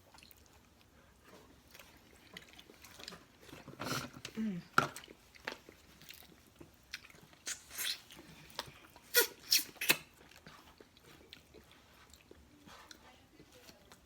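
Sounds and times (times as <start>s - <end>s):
chewing: 0.0s - 14.0s.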